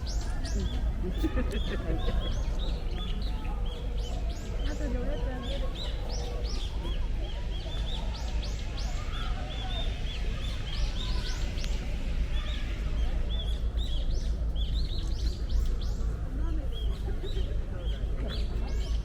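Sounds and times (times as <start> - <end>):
steady low rumble: 0.0 - 18.7
small birds chirping: 0.0 - 19.0.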